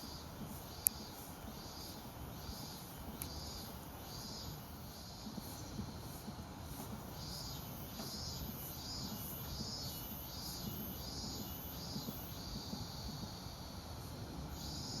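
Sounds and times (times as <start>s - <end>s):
insect song pulsing: 0.0s - 15.0s.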